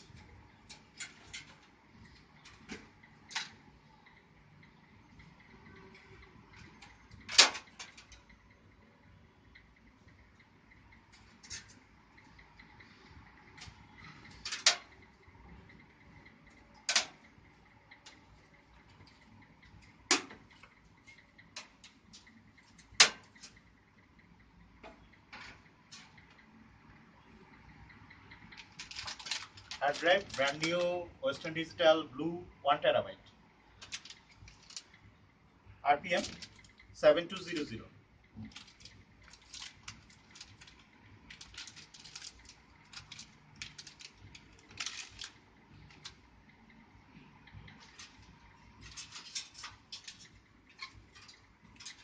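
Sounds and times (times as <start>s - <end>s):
computer parts clicking and knocking: 0.1s - 8.7s, 9.5s - 26.6s, 27.5s - 31.8s, 33.6s - 35.1s, 35.9s - 52.0s.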